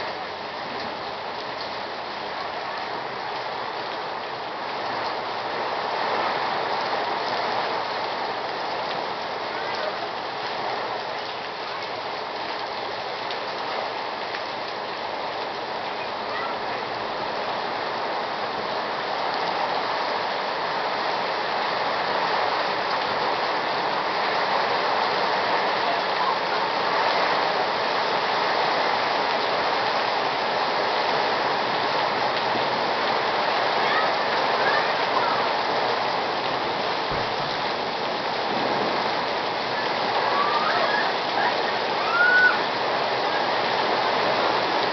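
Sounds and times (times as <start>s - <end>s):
torrential rain pouring: 0.0s - 44.9s.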